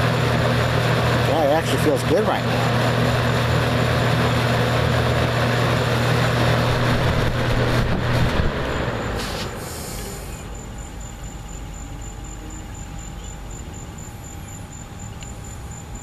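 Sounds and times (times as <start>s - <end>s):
box fan running: 0.0s - 16.0s.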